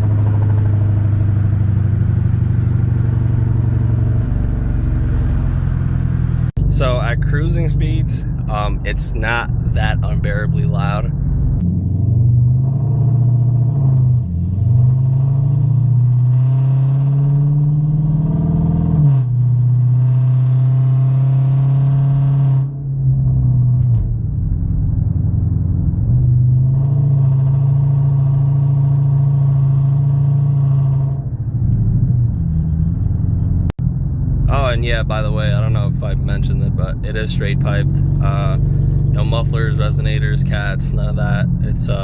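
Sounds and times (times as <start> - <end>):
car engine droning: 0.0 - 42.0.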